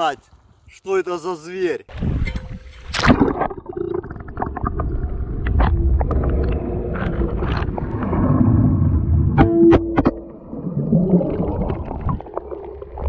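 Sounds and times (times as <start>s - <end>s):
low underwater rumble: 1.9s - 13.0s.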